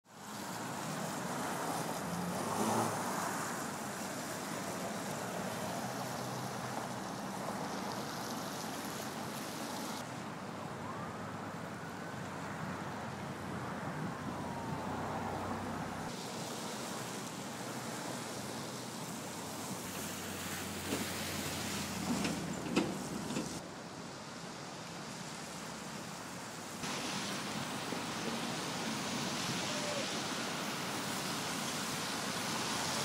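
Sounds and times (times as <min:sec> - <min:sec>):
tyres hissing on wet road: 0:00.0 - 0:33.0.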